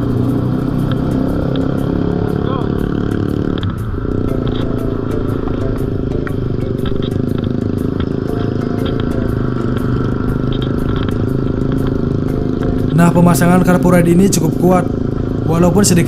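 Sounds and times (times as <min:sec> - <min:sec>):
scooter engine cruising: 0:00.0 - 0:16.0.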